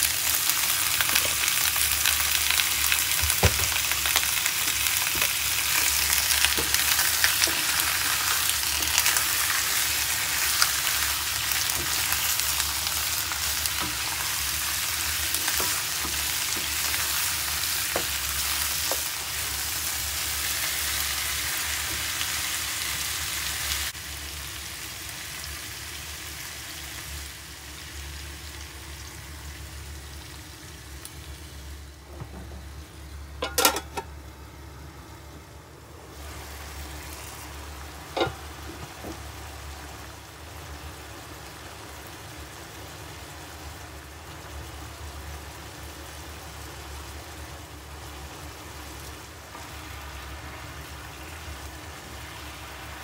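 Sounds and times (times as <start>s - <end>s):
food sizzling in a wok: 0.0s - 32.0s, 36.1s - 53.0s.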